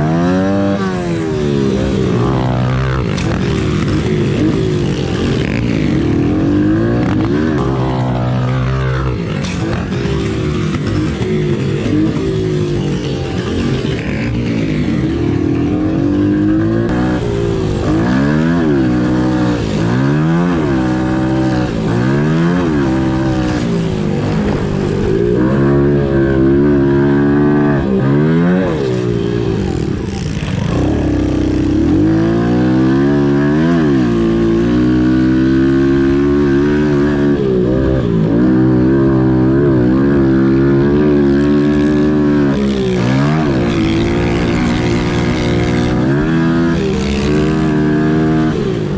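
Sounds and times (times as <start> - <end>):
small motorbike engines revving: 0.0 - 48.9.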